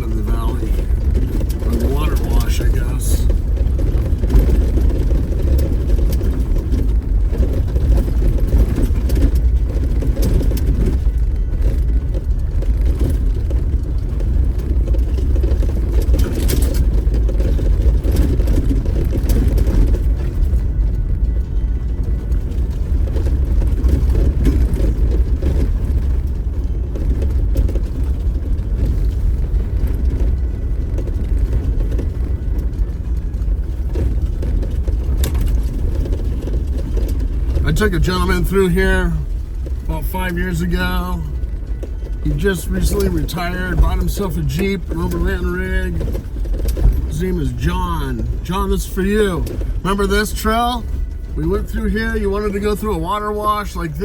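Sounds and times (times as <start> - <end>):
faint knocks and rattles: 0.0 - 53.6
vehicle engine and tyre rumble: 0.0 - 54.0.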